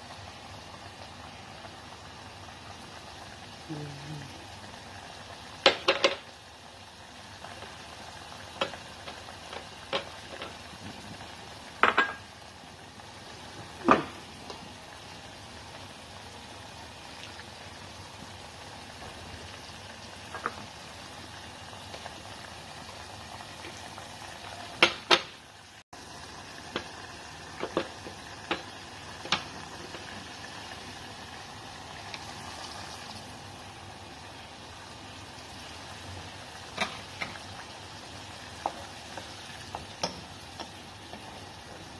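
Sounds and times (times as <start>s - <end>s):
meat boiling in a saucepan: 0.0s - 41.9s.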